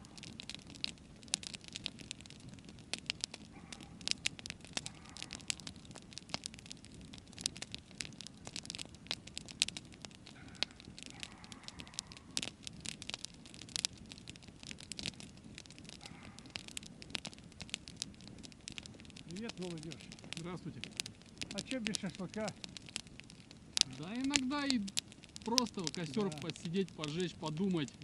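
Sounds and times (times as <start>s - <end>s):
campfire crackling and popping: 0.0s - 28.0s
low rush of flame: 0.0s - 28.0s.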